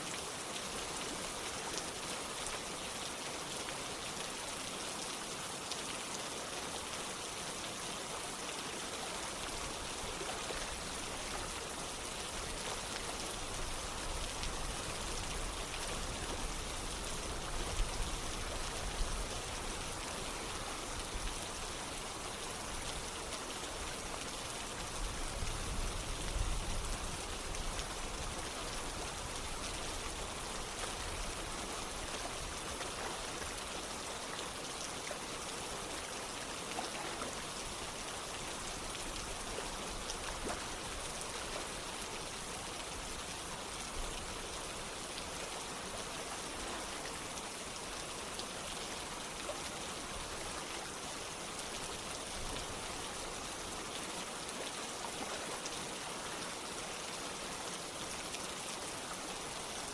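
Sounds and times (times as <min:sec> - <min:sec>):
rain falling: 0:00.0 - 0:59.9
running water: 0:00.0 - 0:59.9.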